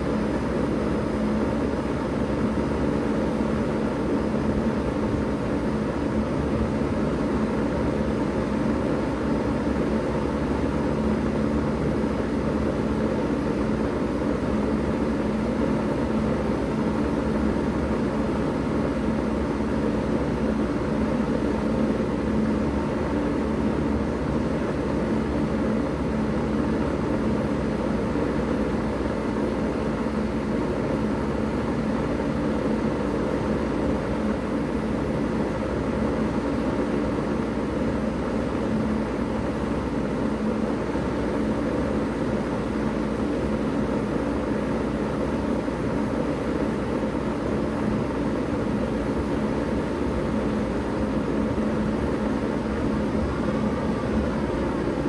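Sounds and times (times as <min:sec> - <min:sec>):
compressor low hum: 0:00.0 - 0:55.0
heat pump fan air rushing: 0:00.0 - 0:55.0.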